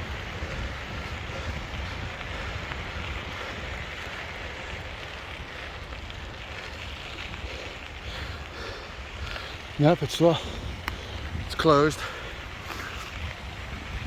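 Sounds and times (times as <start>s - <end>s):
rushing noise with low rumble: 0.0s - 14.0s.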